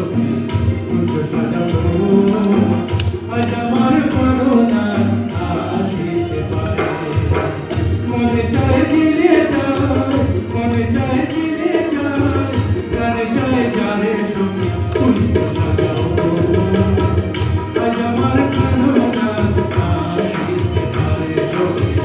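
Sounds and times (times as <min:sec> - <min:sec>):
drum percussion: 0:00.0 - 0:22.0
song with sung vocals: 0:00.0 - 0:22.0.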